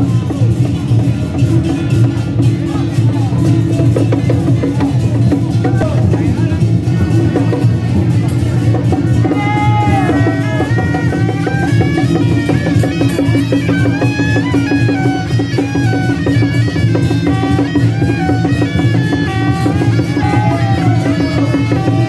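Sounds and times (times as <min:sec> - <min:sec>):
fast drum and cymbal beats: 0:00.0 - 0:22.0.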